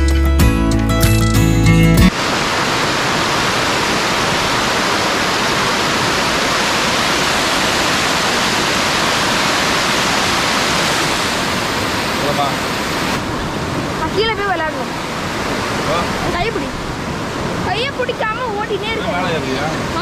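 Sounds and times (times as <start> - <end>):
waterfall rushing: 2.1 - 20.0.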